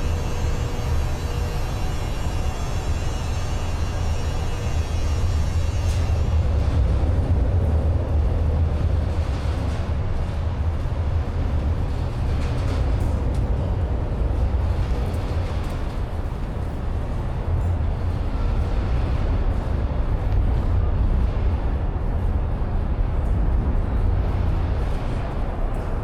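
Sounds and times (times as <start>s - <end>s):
city traffic rumble: 0.0s - 26.0s
general street noise: 0.0s - 26.0s.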